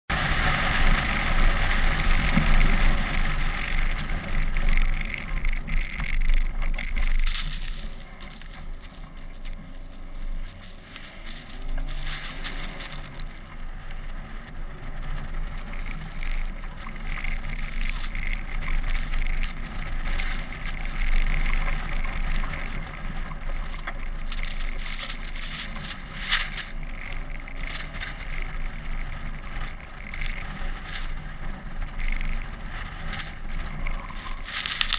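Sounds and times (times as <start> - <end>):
sharp ticks: 0.1 - 34.9
vehicle driving through snow: 0.1 - 34.9.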